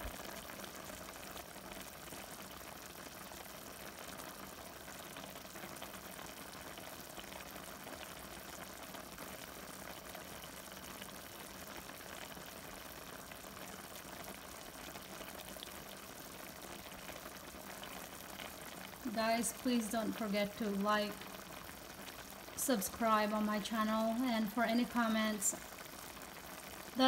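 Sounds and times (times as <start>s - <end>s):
sauce boiling in a pan: 0.0s - 27.0s.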